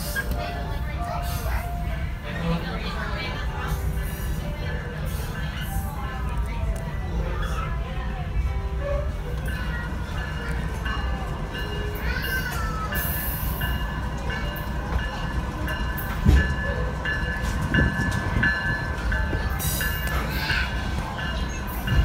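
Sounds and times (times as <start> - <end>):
train coach low rumble: 0.0 - 22.0.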